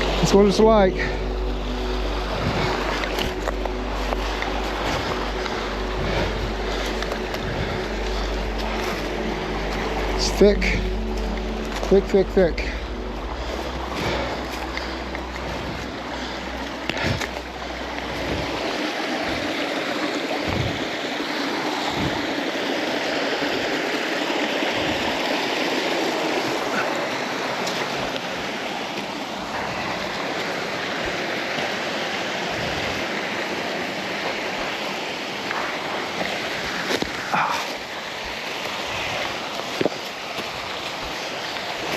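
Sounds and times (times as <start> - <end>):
creek water rushing: 0.0 - 41.9.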